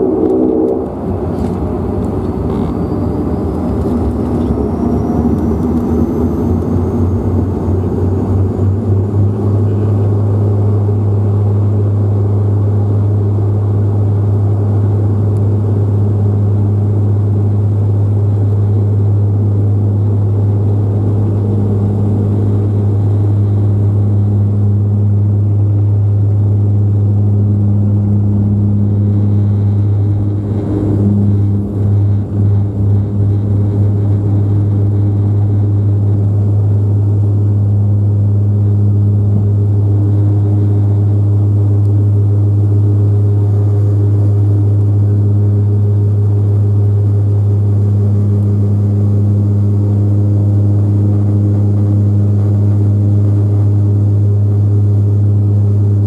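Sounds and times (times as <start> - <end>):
loud propeller drone: 0.0 - 56.0
turboprop engine whine: 0.0 - 56.0.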